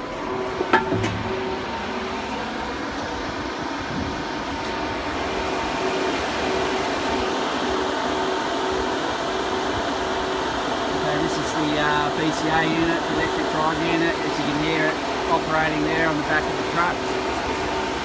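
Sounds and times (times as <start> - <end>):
air conditioner compressor and fans whirring: 0.0 - 18.0
faint hum: 0.0 - 18.0.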